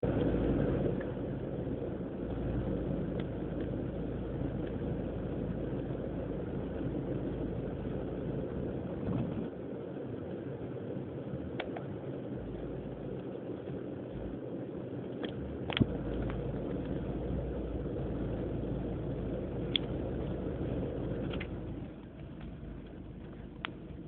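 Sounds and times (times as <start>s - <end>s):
car engine idling roughly: 0.0s - 24.0s.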